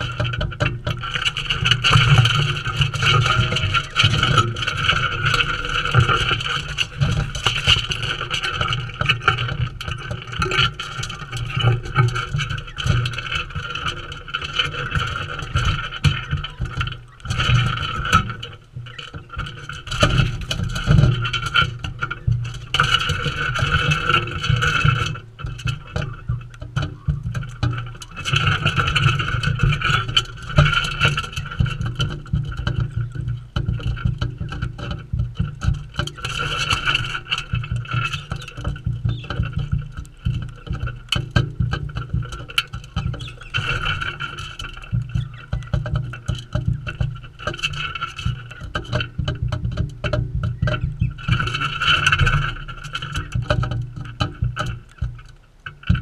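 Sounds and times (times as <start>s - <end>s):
beaks tapping and crunching seed: 0.0s - 56.0s
birds jostling bumps: 0.0s - 56.0s.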